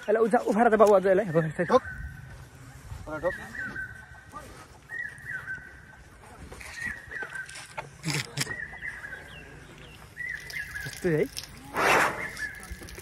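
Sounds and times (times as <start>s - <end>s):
bird chirping: 1.0s - 13.0s.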